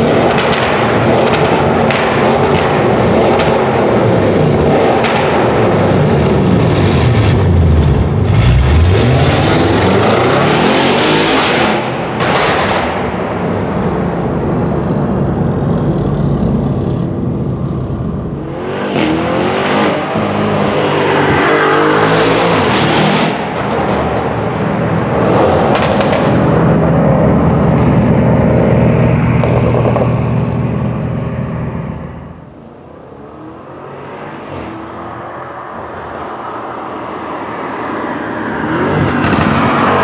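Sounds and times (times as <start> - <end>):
car engine accelerating hard: 0.0 - 12.8, 13.6 - 40.0.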